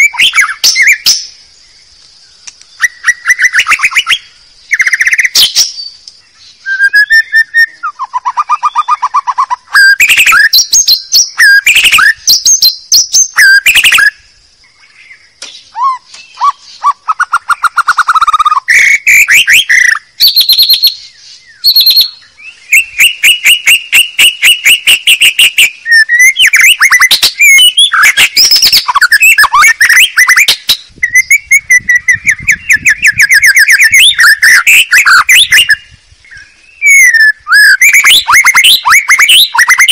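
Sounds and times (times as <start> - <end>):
bird song with trills: 0.0 - 39.9.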